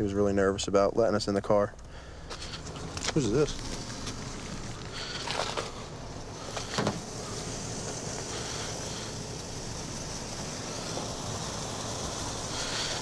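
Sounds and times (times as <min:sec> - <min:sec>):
roadside background noise: 0:00.0 - 0:13.0.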